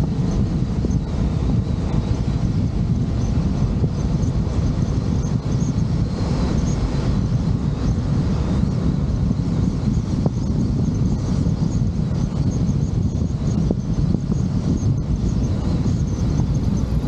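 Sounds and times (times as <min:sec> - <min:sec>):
vehicle rumble: 0:00.0 - 0:17.0
wind buffeting microphone: 0:00.0 - 0:17.0.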